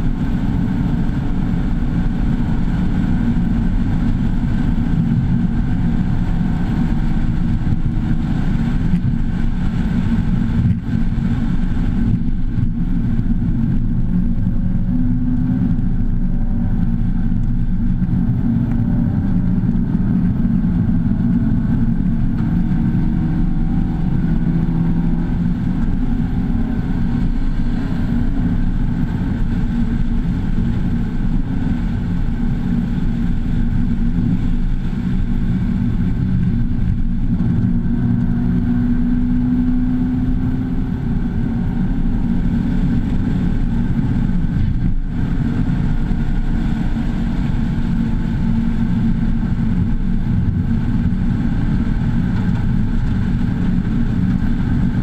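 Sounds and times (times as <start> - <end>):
car engine running hard: 0.0 - 55.0
road and wind noise: 0.0 - 55.0.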